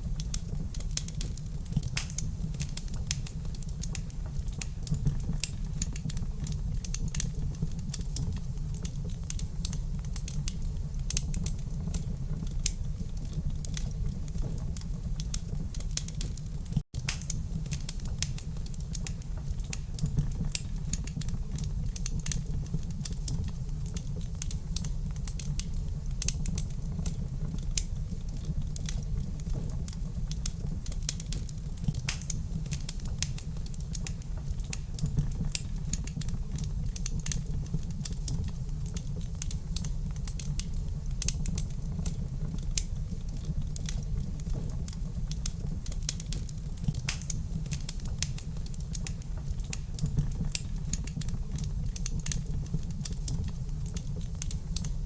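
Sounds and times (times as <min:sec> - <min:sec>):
low rumble of fire: 0:00.0 - 0:55.0
wood fire crackling: 0:00.0 - 0:55.0.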